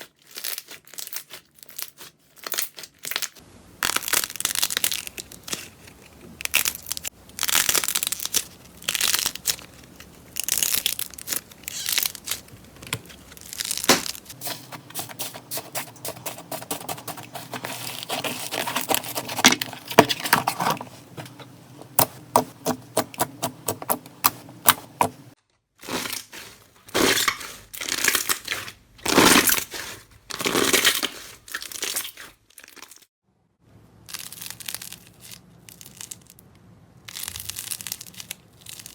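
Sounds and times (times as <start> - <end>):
slime squishing: 0.0 - 33.0, 37.1 - 38.9.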